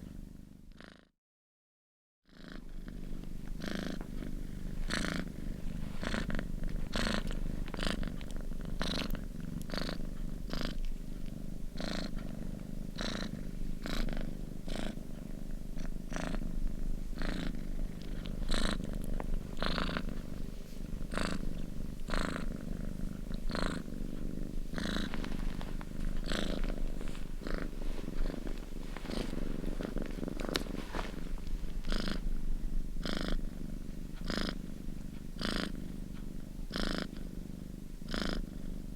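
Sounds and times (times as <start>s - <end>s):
cat purring: 0.0s - 1.1s, 2.3s - 38.9s.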